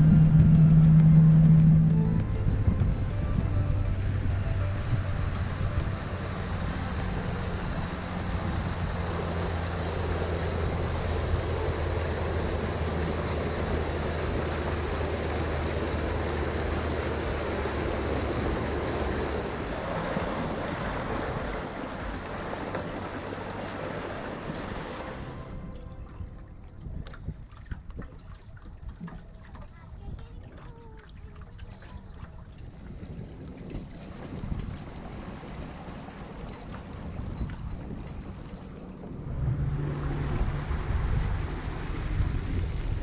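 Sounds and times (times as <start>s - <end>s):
water rushing: 0.0s - 29.6s, 30.5s - 43.0s
boat motor humming: 0.0s - 43.0s
wind: 0.0s - 43.0s.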